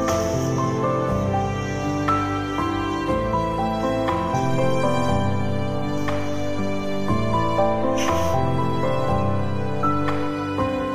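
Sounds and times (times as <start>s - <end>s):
instrumental music with held notes: 0.0s - 10.9s.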